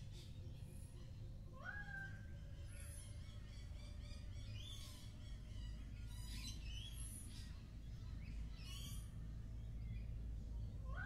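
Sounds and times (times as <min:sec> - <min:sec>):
many birds chirping: 0:00.0 - 0:11.0.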